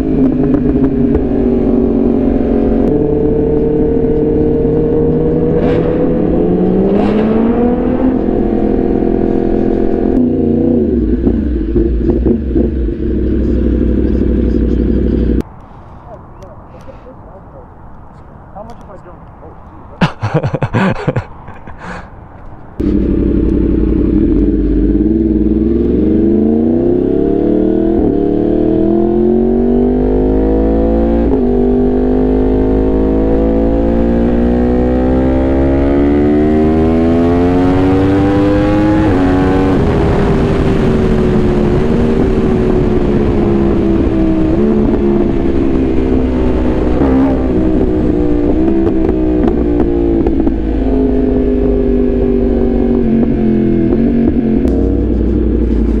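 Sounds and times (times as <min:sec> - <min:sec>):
sport bike engine accelerating: 0:00.0 - 0:15.4, 0:22.8 - 0:56.0.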